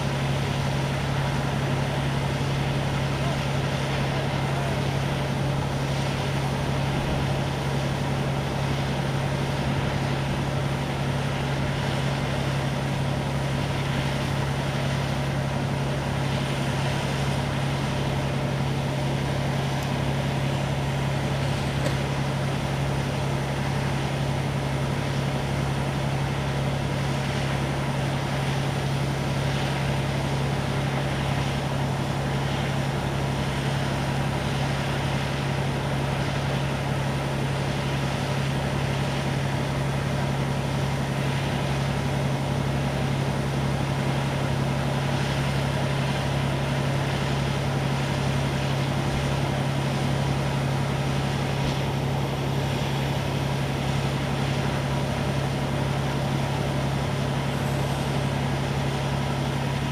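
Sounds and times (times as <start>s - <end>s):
pump engine humming: 0.0s - 59.9s.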